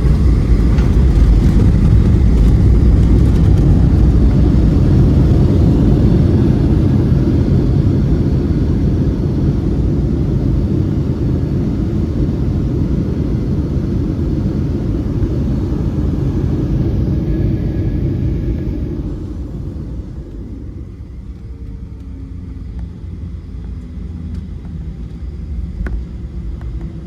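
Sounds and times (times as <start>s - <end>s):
jet cabin low roar: 0.0s - 27.0s.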